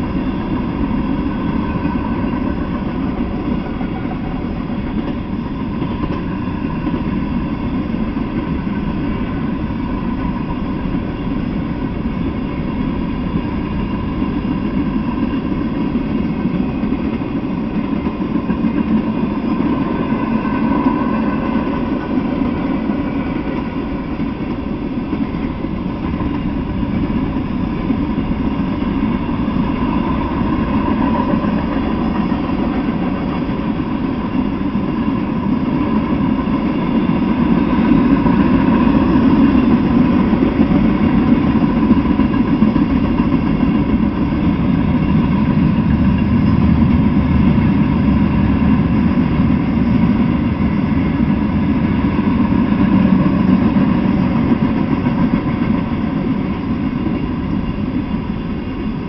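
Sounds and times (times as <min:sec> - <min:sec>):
freight train rumbling on rails: 0:00.0 - 0:59.0.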